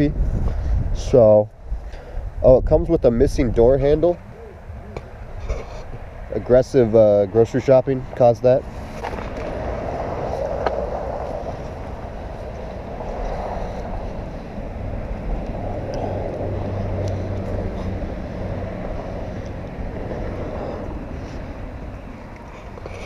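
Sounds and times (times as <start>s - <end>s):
vehicle noise: 0.0s - 23.0s.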